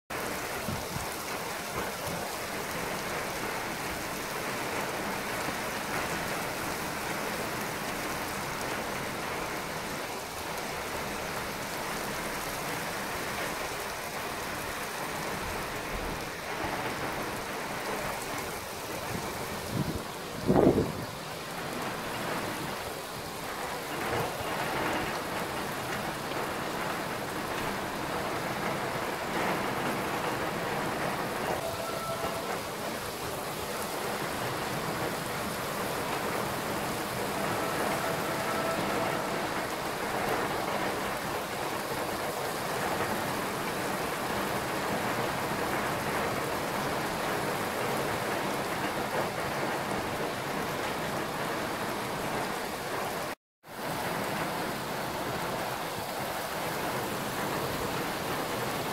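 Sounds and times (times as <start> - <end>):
heavy rain on roofs: 0.0 - 58.9.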